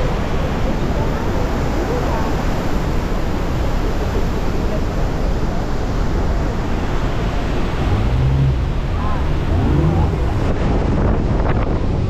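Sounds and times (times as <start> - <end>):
rushing water: 0.0 - 12.0
wind on microphone: 0.0 - 12.0.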